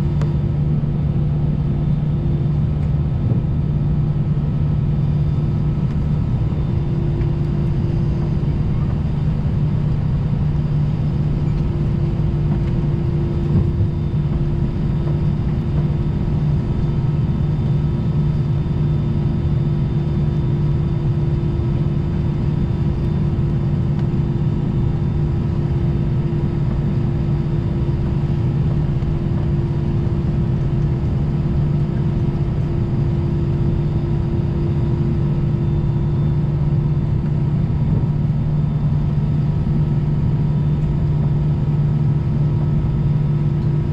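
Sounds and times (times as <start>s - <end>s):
humming and whining tones: 0.0s - 43.9s
jet engine cabin rumble: 0.0s - 43.9s.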